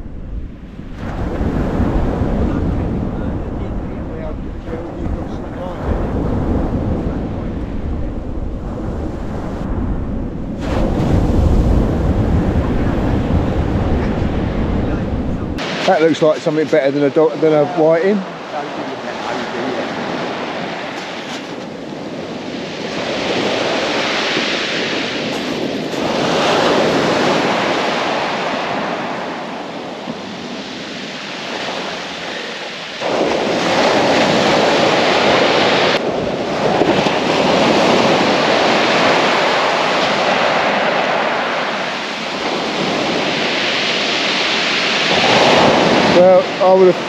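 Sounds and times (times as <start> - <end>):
surf breaking on a shingle beach: 0.0 - 47.0
wind on the microphone: 0.0 - 47.0.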